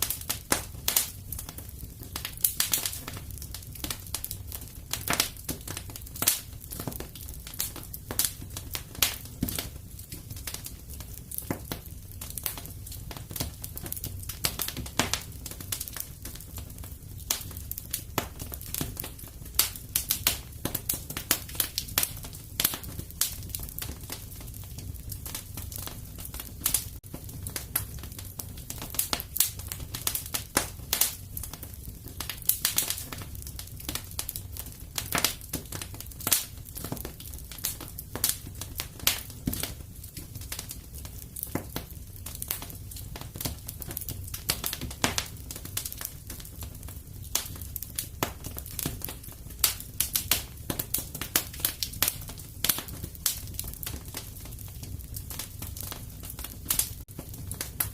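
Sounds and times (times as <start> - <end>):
fire crackling in a fireplace: 0.0 - 57.9.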